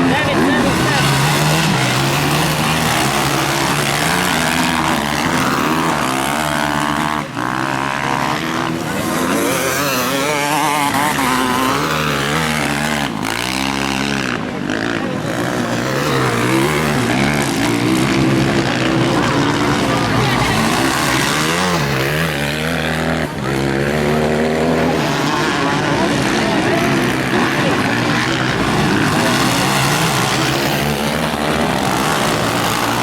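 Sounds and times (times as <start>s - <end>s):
motocross bikes revving: 0.0s - 33.0s
motorbike passing close: 0.0s - 33.0s.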